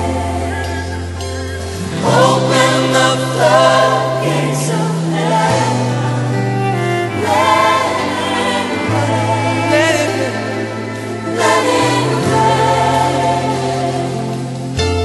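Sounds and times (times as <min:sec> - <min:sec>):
choir singing: 0:00.0 - 0:15.0
sustained bass line: 0:00.0 - 0:15.0.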